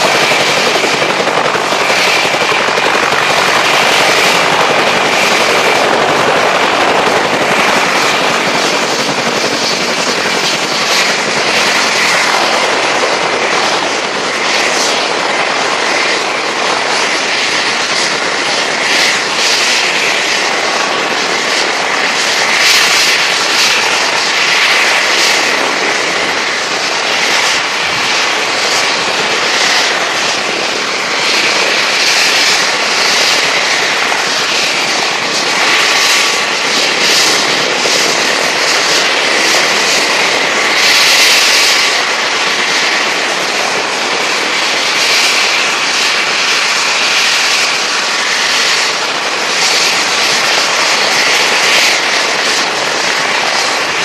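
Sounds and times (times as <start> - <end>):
helicopter turbine whine: 0.0 - 54.0.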